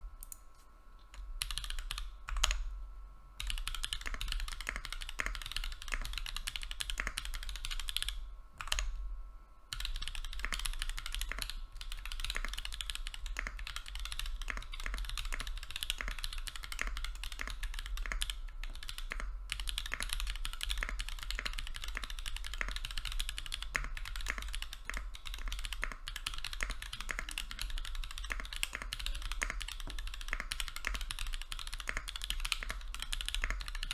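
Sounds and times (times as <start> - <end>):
fast typing on mechanical keyboard: 1.4 - 2.6, 3.4 - 9.0, 9.7 - 33.9.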